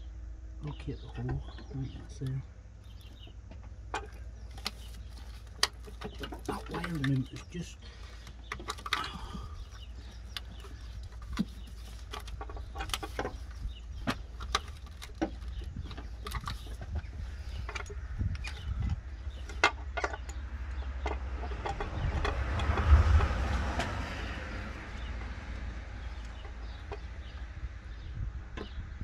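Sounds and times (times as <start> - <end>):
steady low hum: 0.0 - 29.0
rustling rumbling noise: 2.8 - 29.0.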